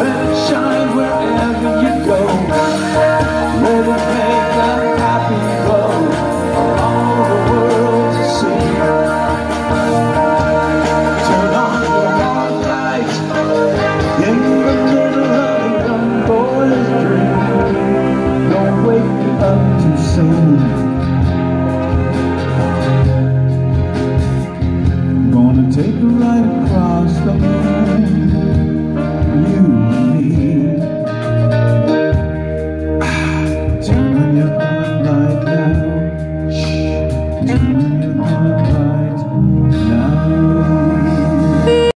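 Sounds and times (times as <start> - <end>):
electric guitar: 0.0 - 41.9
live rock band playing: 0.0 - 41.9.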